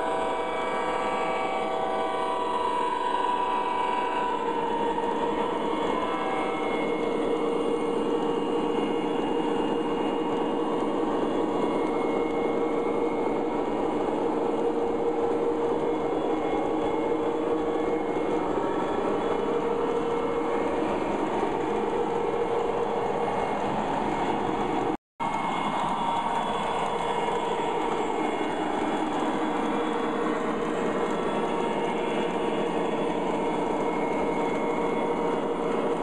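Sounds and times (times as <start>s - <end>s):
model train rumble: 0.0s - 36.0s
steady hum: 0.0s - 36.0s.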